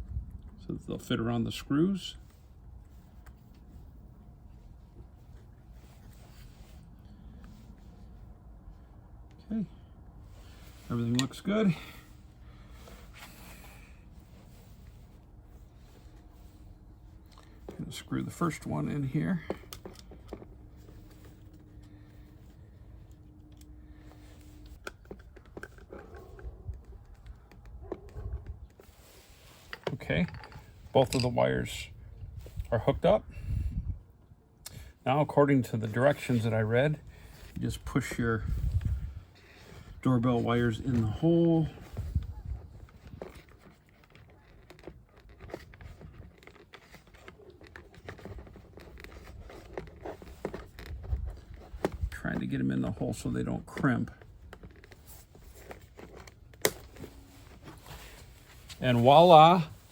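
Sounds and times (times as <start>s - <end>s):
light rustling handling noise: 0.0s - 59.9s.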